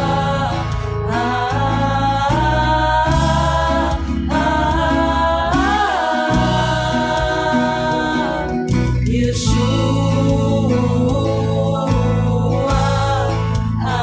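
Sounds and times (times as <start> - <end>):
keyboard accompaniment: 0.0 - 14.0
women singing in harmony: 0.0 - 14.0.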